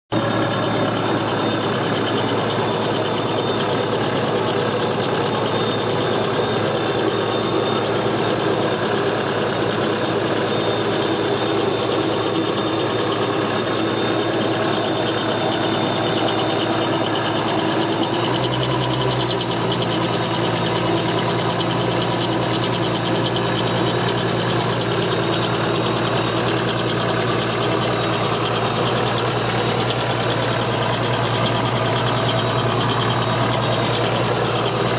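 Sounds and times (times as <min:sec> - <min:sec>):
car engine idling: 0:00.1 - 0:34.9
engine rattle: 0:00.1 - 0:34.9.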